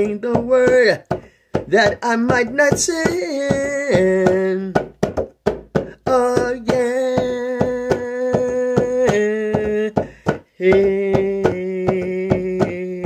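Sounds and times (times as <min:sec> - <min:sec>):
hand drum beat: 0:00.0 - 0:13.0.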